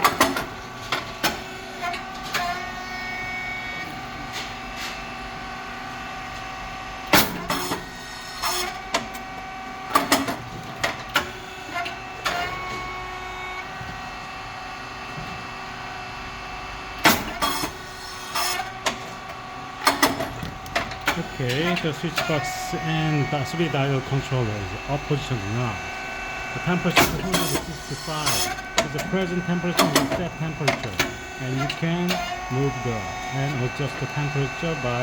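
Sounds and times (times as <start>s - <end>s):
machine motor hum: 0.0s - 35.0s.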